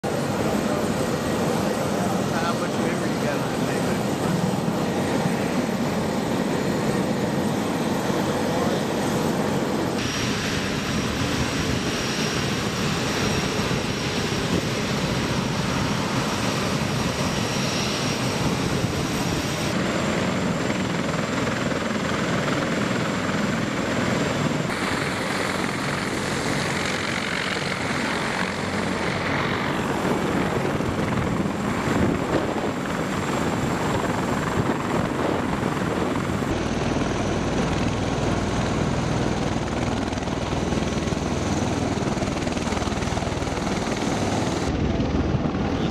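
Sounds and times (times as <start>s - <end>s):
helicopter engines and rotors: 0.0s - 45.9s
high turbine whine: 0.0s - 45.9s.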